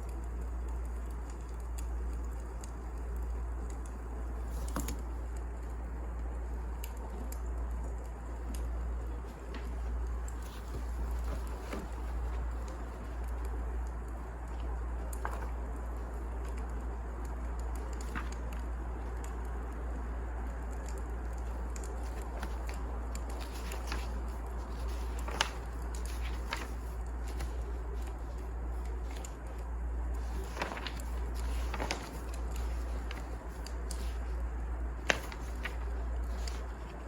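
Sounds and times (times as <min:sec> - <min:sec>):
steady low hum: 0:00.0 - 0:37.0
wood fire crackling: 0:00.0 - 0:37.0.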